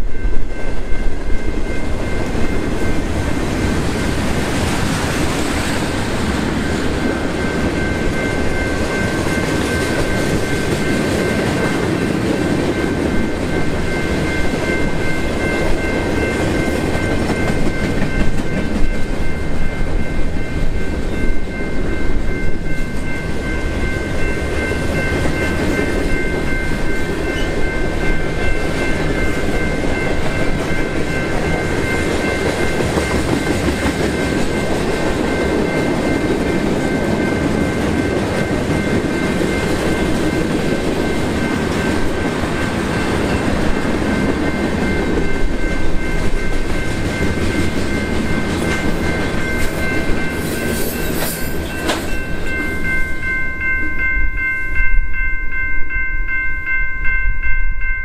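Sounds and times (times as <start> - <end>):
train wheels clacking on rails: 0.0 - 54.1
crossing warning bell ringing: 0.0 - 58.0.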